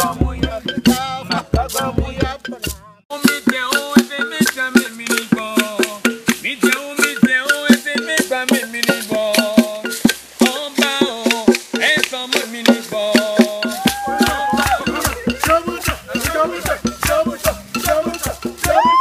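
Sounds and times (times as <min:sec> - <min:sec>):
music with quick percussion beat: 0:00.0 - 0:19.0.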